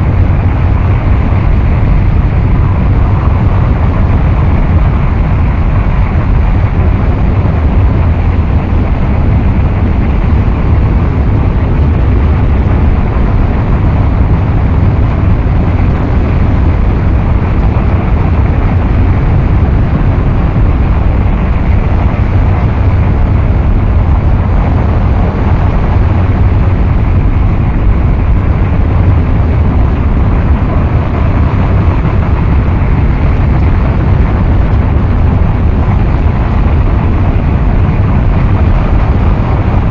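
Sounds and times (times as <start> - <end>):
dense noise music rumble: 0.0 - 39.9.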